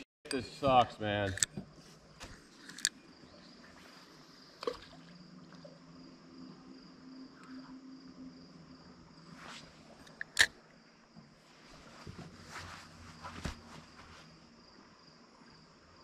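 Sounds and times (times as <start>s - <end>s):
faint insect drone: 0.3s - 16.0s.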